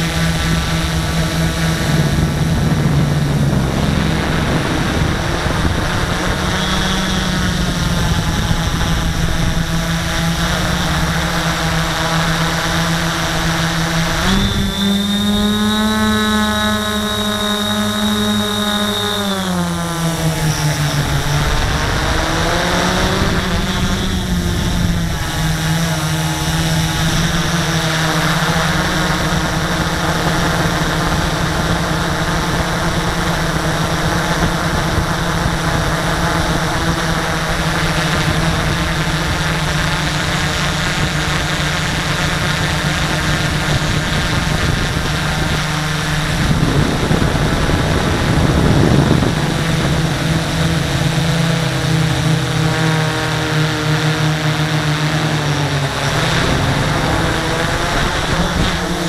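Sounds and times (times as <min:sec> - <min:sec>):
drone propellers humming: 0:00.0 - 0:59.0.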